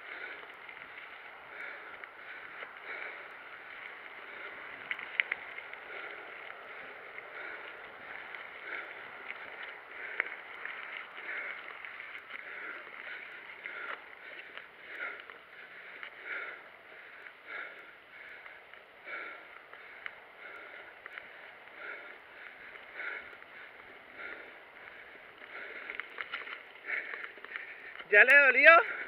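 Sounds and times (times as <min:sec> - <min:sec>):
person breathing hard: 0:00.0 - 0:28.1
bike rattling over gravel: 0:00.0 - 0:29.0.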